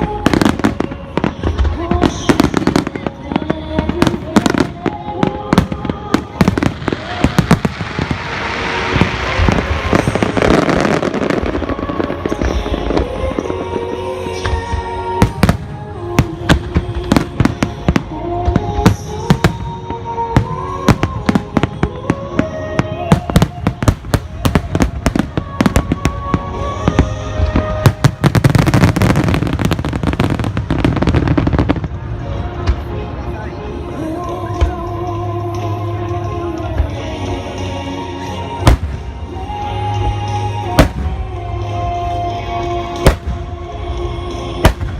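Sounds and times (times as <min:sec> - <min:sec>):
fireworks bangs and crackles: 0:00.0 - 0:33.2, 0:38.3 - 0:41.8, 0:42.9 - 0:44.9
slow melody: 0:00.0 - 0:44.9.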